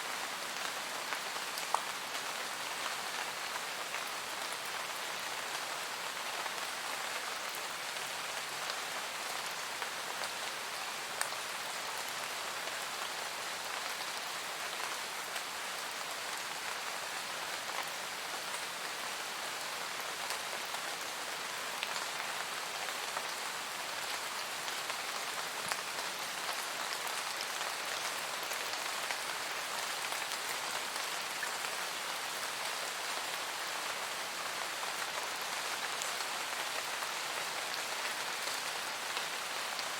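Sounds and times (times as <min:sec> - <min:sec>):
steady rain hiss: 0:00.0 - 0:39.9
raindrops pattering on leaves: 0:00.1 - 0:39.9.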